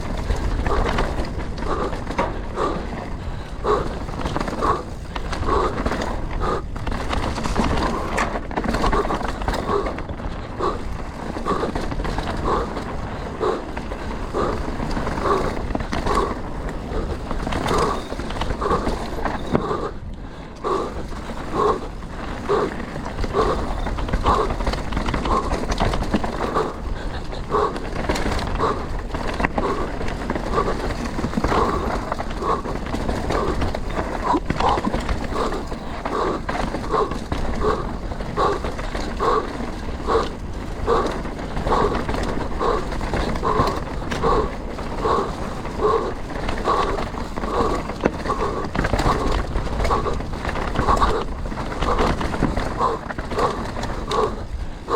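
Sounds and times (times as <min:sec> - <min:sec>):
bike rattling: 0:00.0 - 0:54.9
tyres on dirt and rock: 0:00.0 - 0:54.9.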